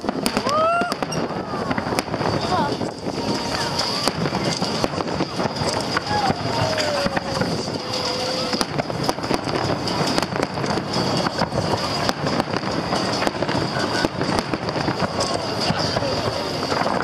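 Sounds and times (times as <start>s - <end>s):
fireworks popping and crackling: 0.0s - 17.0s
steady rumbling noise: 0.0s - 17.0s.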